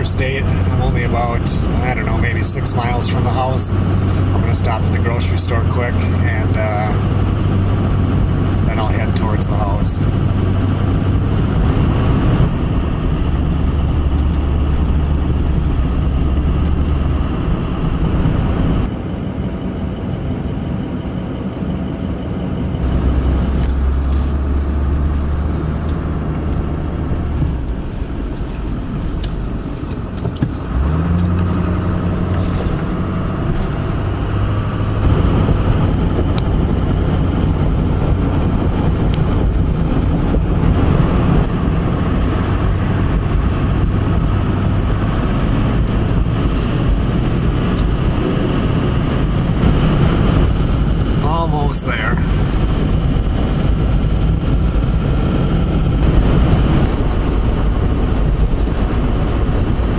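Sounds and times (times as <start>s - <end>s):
truck engine hum: 0.0s - 59.9s
tyre road rush: 0.0s - 59.9s.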